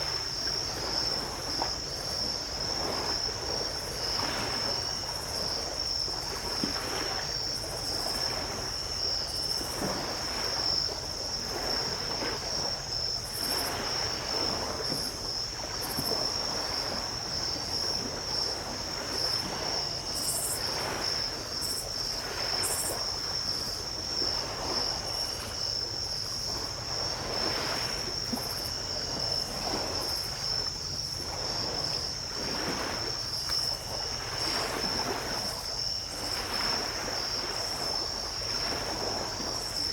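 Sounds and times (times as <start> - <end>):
crickets trilling: 0.0 - 39.9
small waves breaking on beach: 0.0 - 39.9.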